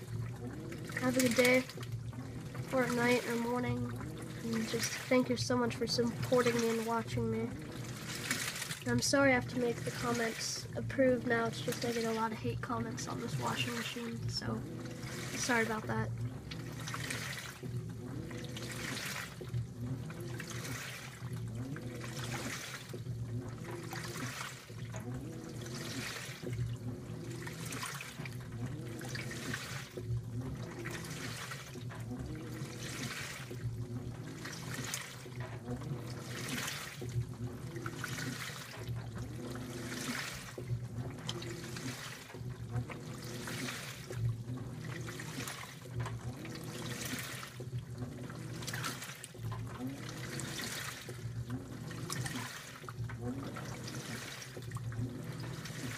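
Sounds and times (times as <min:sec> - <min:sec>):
faint motor whine: 0:00.0 - 0:55.9
washing machine motor hum: 0:00.0 - 0:55.9
washing machine water sloshing: 0:00.0 - 0:55.9.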